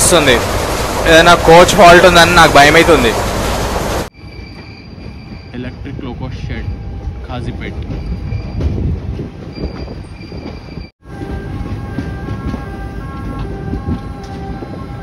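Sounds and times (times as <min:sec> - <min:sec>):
train coach rumbling and rattling: 0:00.0 - 0:15.0.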